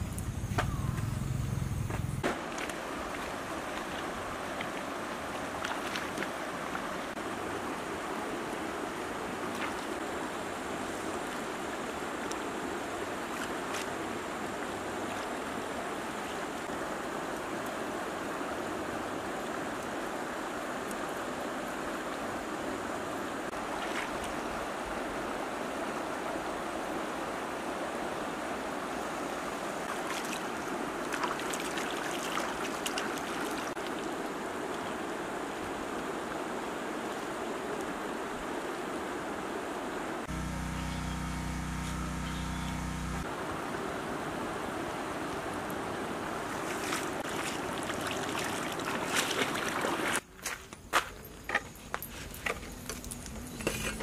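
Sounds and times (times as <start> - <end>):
stream flowing over stones: 2.2 - 40.3, 43.2 - 50.3.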